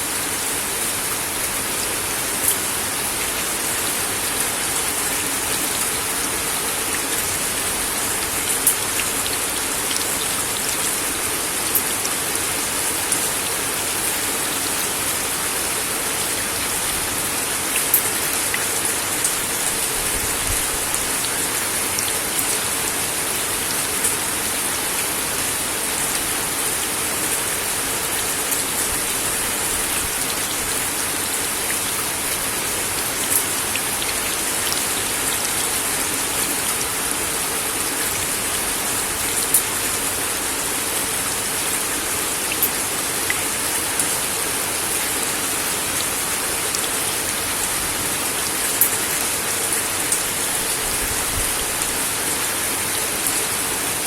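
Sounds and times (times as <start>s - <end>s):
rain on a wooden deck: 0.0s - 54.0s.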